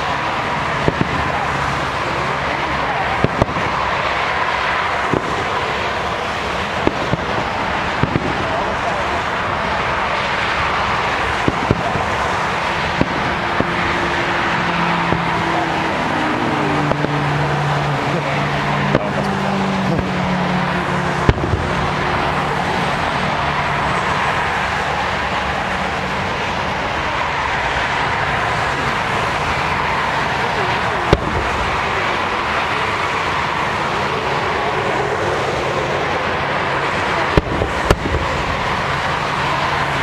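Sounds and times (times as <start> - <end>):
distant fireworks popping: 0.0 - 40.0
road traffic noise: 0.0 - 40.0
vehicle engine droning: 0.0 - 40.0.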